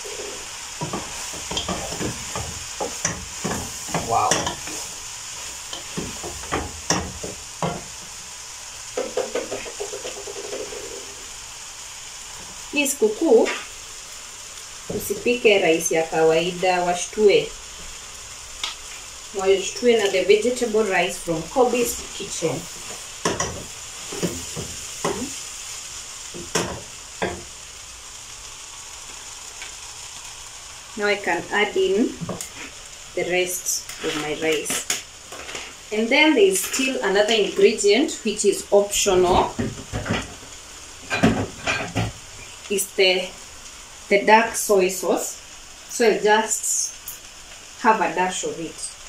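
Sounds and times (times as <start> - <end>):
faint hiss: 0.0 - 49.0
frying sizzle: 0.0 - 49.0.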